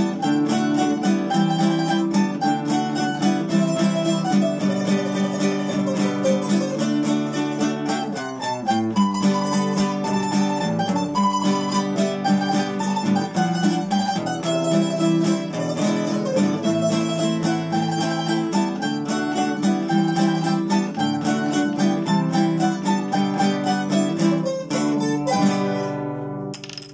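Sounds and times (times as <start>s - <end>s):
classical guitar: 0.0s - 26.5s
small plucked string instrument: 0.0s - 26.6s.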